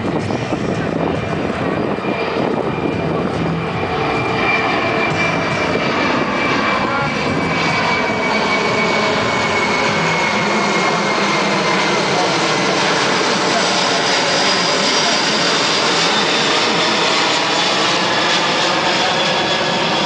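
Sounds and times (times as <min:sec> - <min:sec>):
high jet engine whine: 0:00.0 - 0:20.0
jet aircraft flying by: 0:00.0 - 0:20.0.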